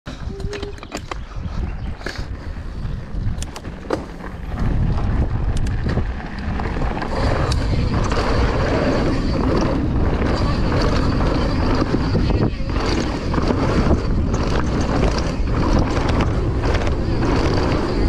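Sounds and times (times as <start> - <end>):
bike clicks and rattles: 0.1 - 18.0
wind buffeting microphone: 0.1 - 18.0
bike tyres crunching over stones: 1.1 - 18.0.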